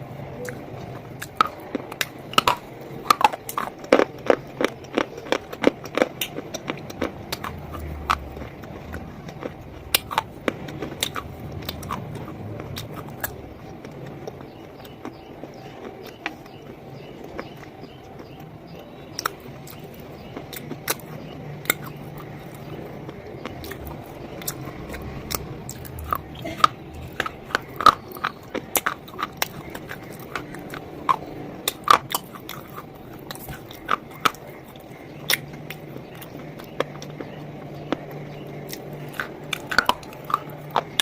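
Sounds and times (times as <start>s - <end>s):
crunchy bar biting and chewing: 0.4s - 18.5s, 19.1s - 41.0s.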